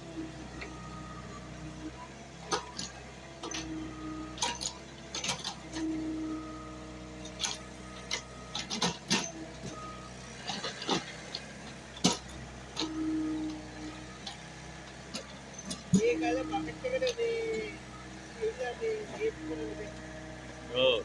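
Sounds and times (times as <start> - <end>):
excavator running: 0.0 - 21.0.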